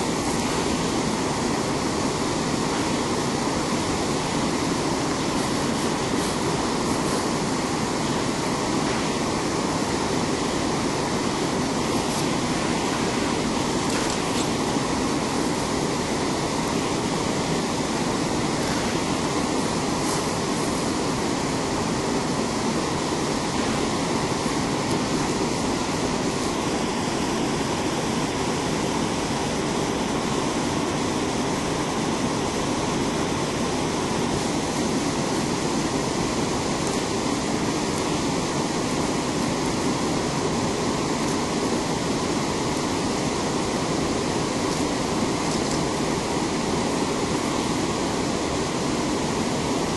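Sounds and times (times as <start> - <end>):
river water rushing over rocks: 0.0 - 49.9.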